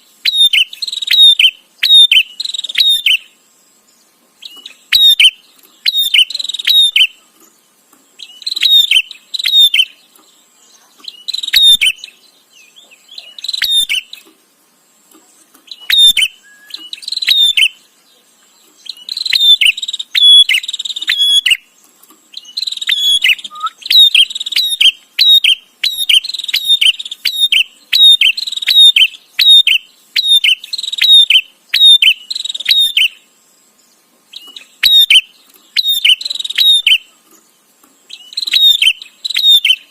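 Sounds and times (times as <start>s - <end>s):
bird chattering song: 0.0s - 14.4s, 15.1s - 39.9s.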